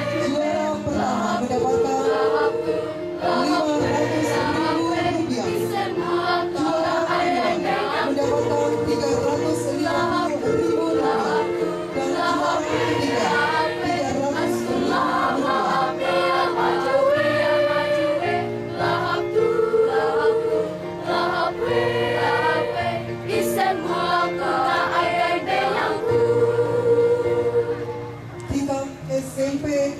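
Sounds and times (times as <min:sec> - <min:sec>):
girls choir singing: 0:00.0 - 0:08.8, 0:09.6 - 0:28.2.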